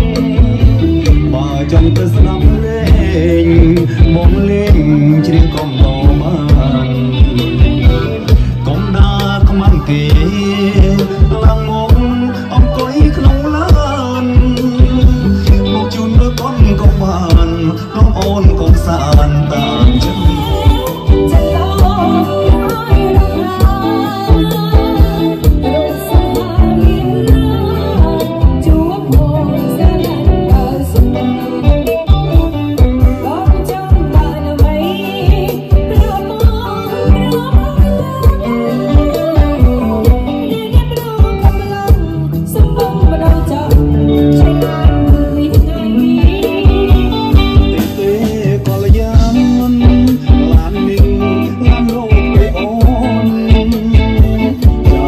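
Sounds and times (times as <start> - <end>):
fast drum beat: 0.0 - 55.0
guitar: 0.0 - 55.0
live band music: 0.0 - 55.0
person singing: 0.0 - 55.0.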